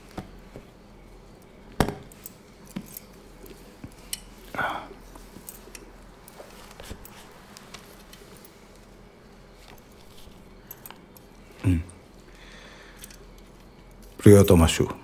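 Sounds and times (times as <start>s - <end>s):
small things clicking and clinking: 1.3s - 4.5s, 5.1s - 14.7s.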